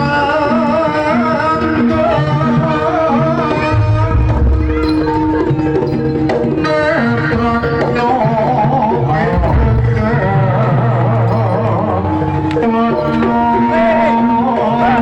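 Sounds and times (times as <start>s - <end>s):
hand drums beating: 0.0s - 15.0s
ornamented high melody: 1.8s - 15.0s.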